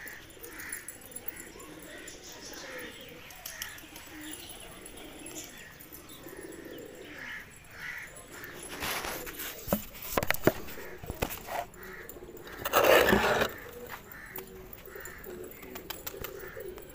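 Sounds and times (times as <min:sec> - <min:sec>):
pigeons cooing: 0:00.0 - 0:16.9.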